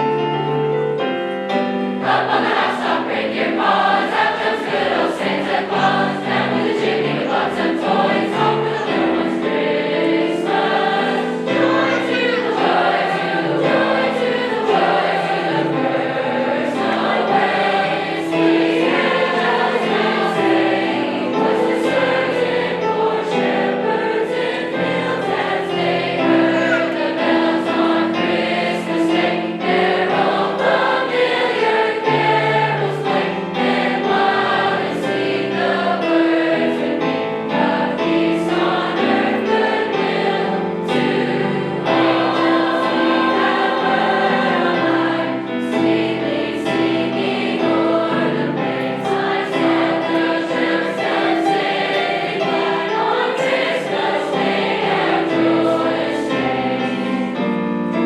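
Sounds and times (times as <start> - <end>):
choir singing with accompaniment: 0.0 - 58.0.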